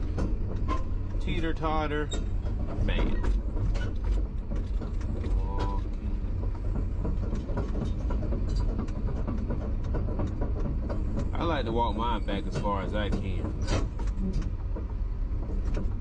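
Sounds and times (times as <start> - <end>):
steel tracks clanking: 0.0 - 16.0.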